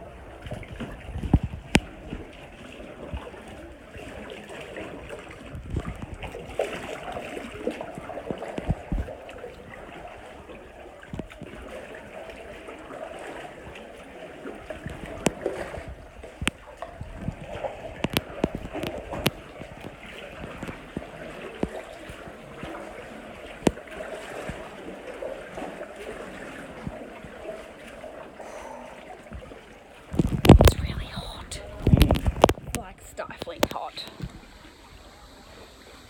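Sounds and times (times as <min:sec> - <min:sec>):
paddle strokes: 0:00.0 - 0:36.0
water lapping and gurgling: 0:00.0 - 0:36.0.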